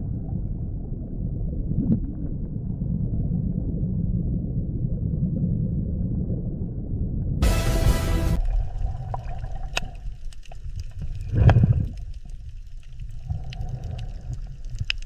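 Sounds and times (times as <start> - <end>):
underwater sea rumble: 0.0 - 7.4, 8.4 - 15.0.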